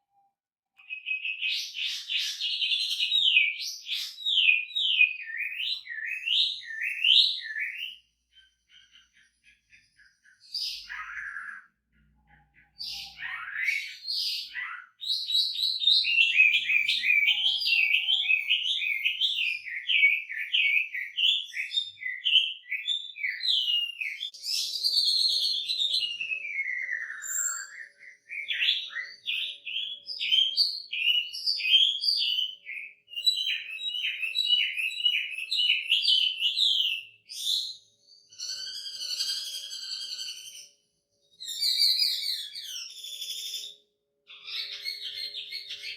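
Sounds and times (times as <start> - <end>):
bird singing whistled song: 0.8 - 45.9.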